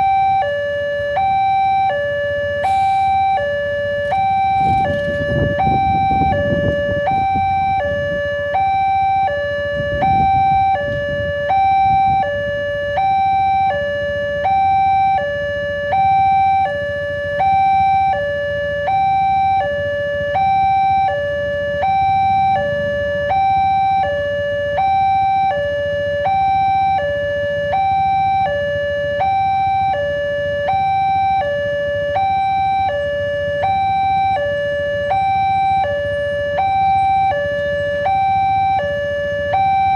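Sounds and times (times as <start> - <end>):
low engine rumble of traffic: 0.0 - 39.9
two-tone level crossing alarm: 0.0 - 39.9.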